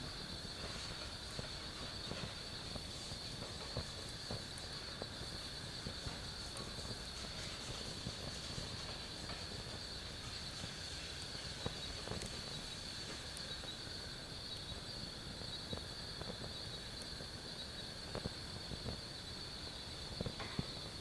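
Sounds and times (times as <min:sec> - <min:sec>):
night insects chorus: 0:00.0 - 0:21.0
wood fire crackling: 0:00.0 - 0:21.0.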